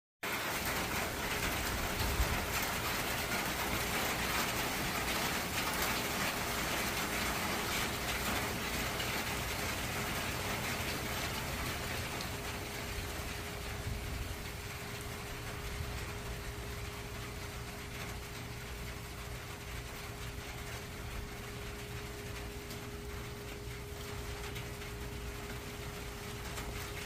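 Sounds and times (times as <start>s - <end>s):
rain on concrete: 0.2s - 27.0s.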